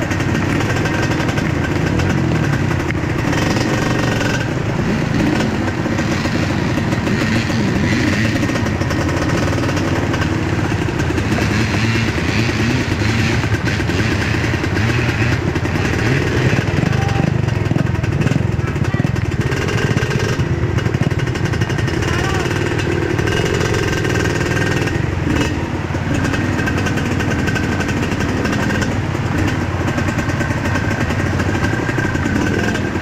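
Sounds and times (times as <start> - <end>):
motorcycle two-stroke engine revving: 0.0 - 33.0.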